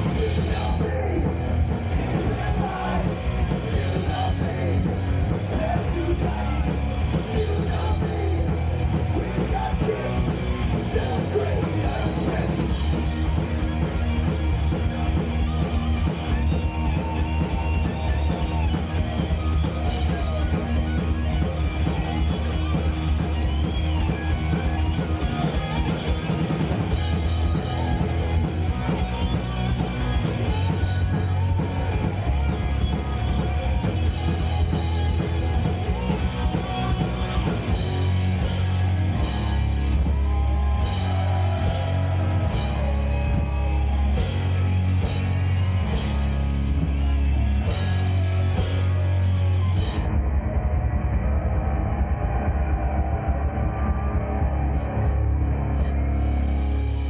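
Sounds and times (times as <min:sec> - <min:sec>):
hard rock band playing: 0:00.0 - 0:57.0.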